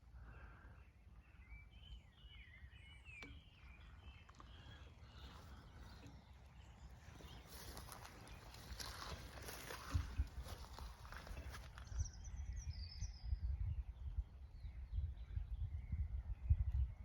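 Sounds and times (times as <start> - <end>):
faint birdsong chirping: 0.0 - 17.0.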